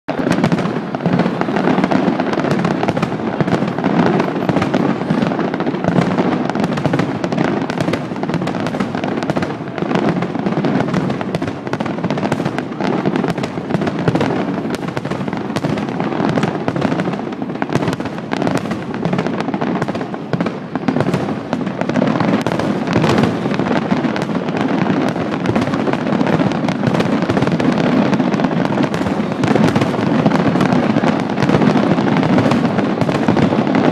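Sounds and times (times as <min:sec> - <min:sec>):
fireworks bangs and crackles: 0:00.1 - 0:33.9.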